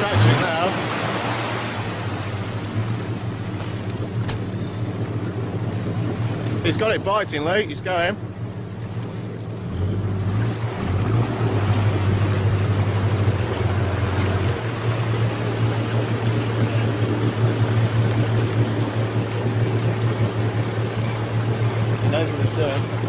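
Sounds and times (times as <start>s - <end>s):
engine droning under load: 0.0s - 23.0s
water surging and rushing: 0.0s - 23.0s.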